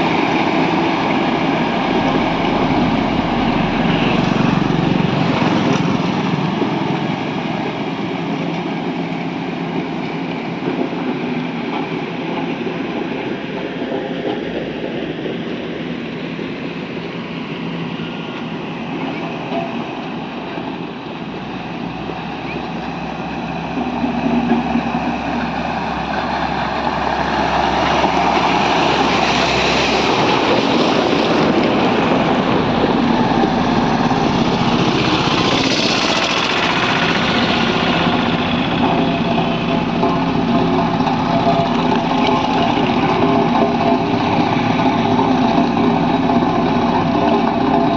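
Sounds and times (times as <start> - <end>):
heavy machinery engines running: 0.0 - 47.9.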